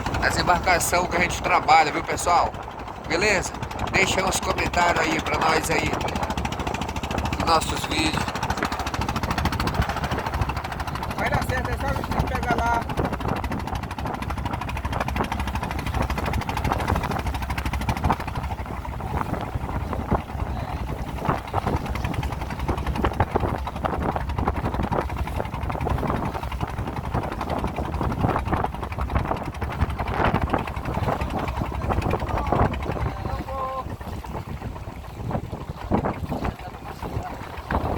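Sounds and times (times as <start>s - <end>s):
boat motor running: 0.0s - 37.9s
knocks and splashes from hull: 0.0s - 37.9s.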